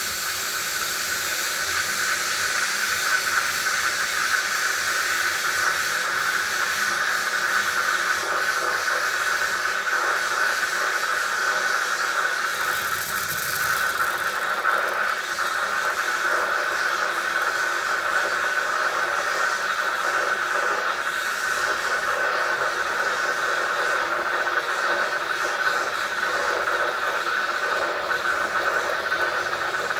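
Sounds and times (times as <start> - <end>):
heating tool hissing and whining: 0.0 - 29.9.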